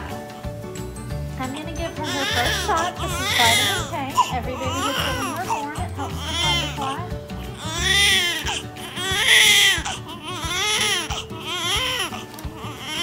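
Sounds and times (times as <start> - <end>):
newborn baby crying: 2.0 - 13.0.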